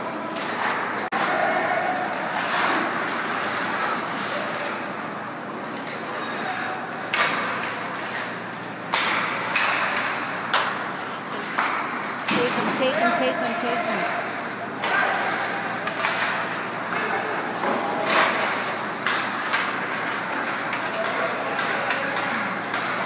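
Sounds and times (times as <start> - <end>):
crowd: 0.0 - 23.0.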